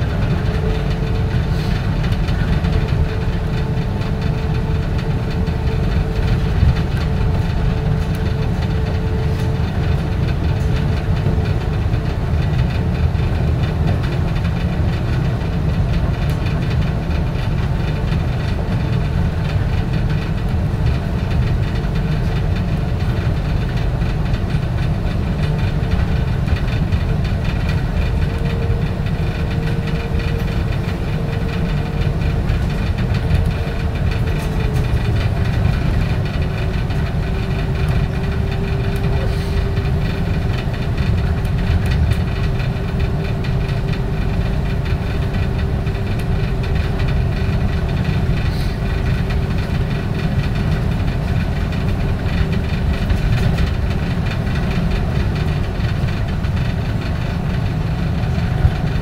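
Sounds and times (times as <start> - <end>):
train car low rumble: 0.0 - 59.0.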